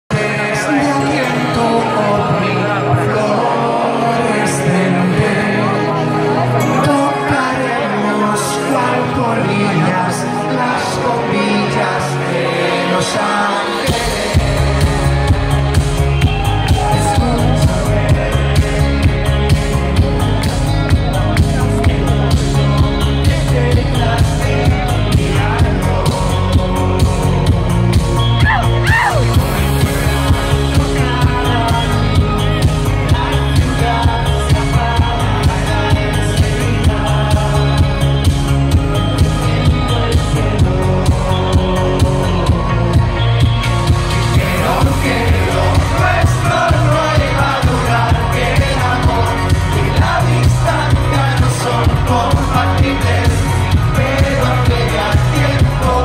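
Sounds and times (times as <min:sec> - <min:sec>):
live pop song over loudspeakers: 0:00.0 - 0:56.0.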